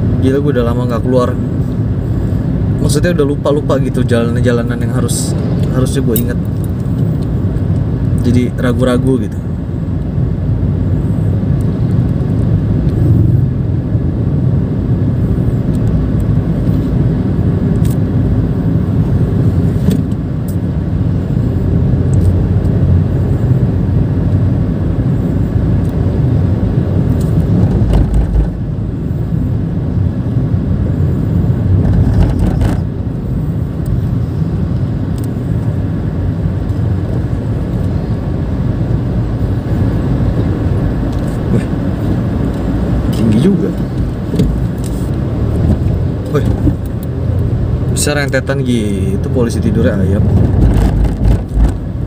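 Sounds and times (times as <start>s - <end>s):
car cabin engine and tyre rumble: 0.0s - 52.0s.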